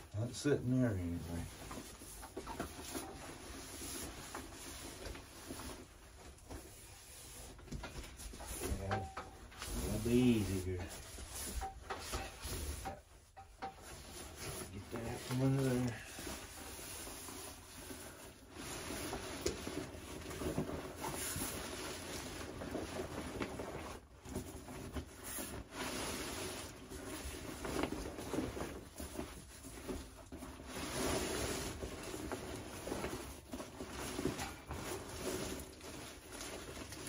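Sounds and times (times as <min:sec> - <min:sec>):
nylon bag rustling and scraping: 0:00.0 - 0:37.0.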